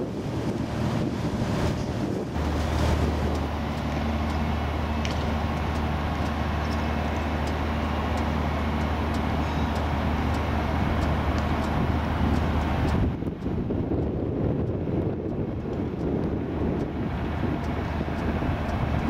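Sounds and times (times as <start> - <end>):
large diesel engine droning: 0.0 - 19.0.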